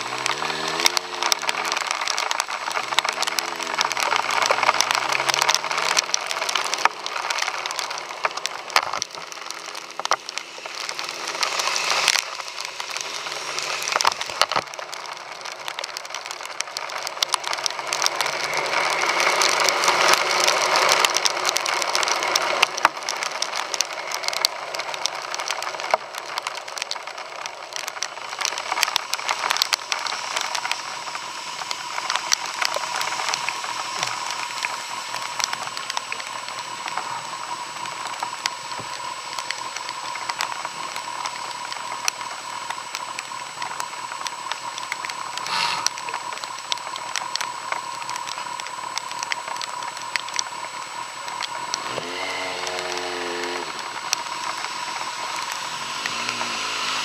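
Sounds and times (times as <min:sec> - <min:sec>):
heavy rain: 0:00.0 - 0:57.0
steady whine: 0:00.0 - 0:57.0.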